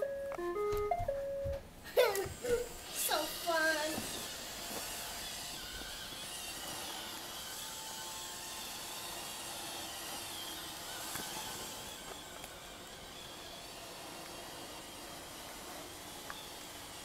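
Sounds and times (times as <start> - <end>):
robotic vacuum whirring: 2.0 - 17.0.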